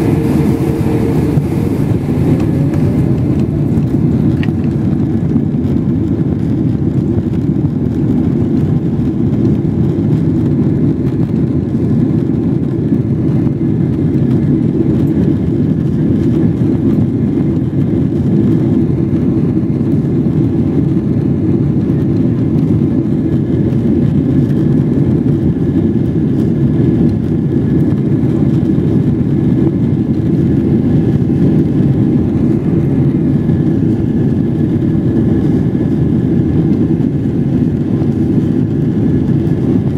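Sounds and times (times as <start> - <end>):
jet engines rushing: 0.0 - 39.9.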